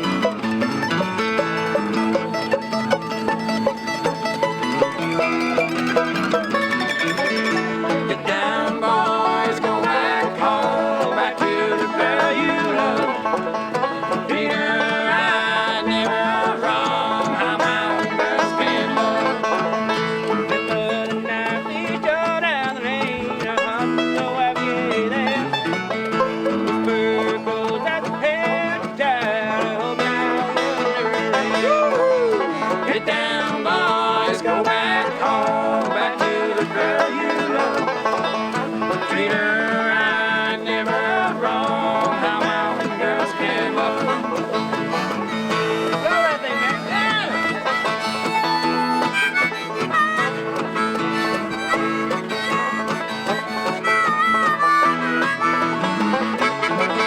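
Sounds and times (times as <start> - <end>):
banjo picking: 0.0 - 57.0
bluegrass band playing: 0.0 - 57.0.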